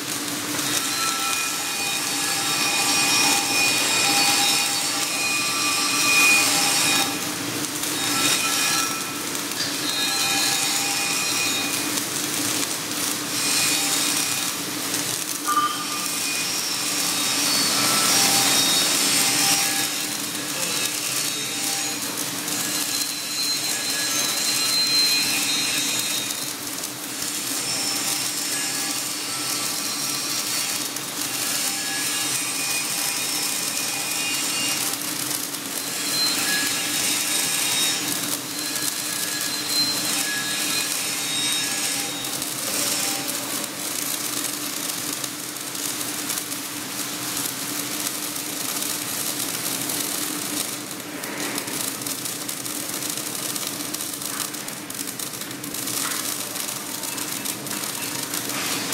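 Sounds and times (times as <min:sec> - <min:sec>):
welding arc: 0:00.0 - 0:58.9.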